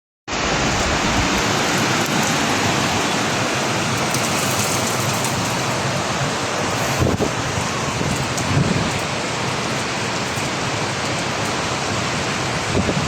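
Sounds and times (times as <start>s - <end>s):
heavy rain falling: 0.3s - 13.0s.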